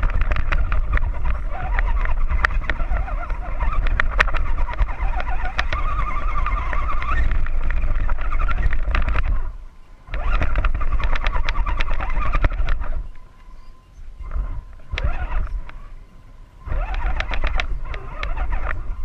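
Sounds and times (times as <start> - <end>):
sharp clicks: 0.0 - 9.5, 10.1 - 13.5, 14.3 - 15.8, 16.7 - 19.0
electric motor and gears whining: 0.0 - 19.0.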